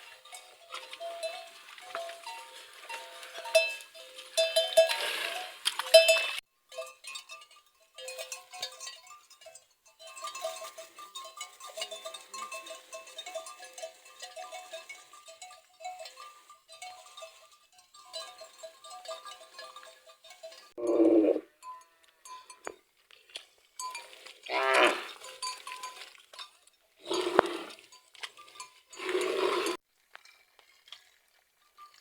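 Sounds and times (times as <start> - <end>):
sheep and goat bells jangling: 0.0 - 32.0.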